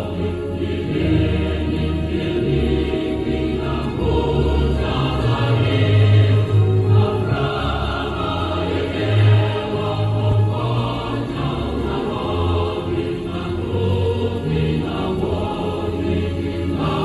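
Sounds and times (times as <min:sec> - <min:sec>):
choir-like voices: 0:00.0 - 0:17.0.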